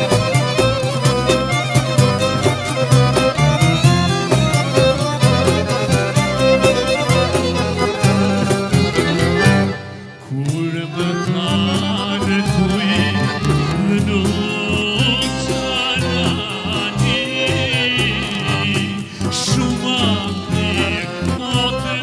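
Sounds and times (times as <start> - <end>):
band playing fast folk song: 0.0 - 22.0.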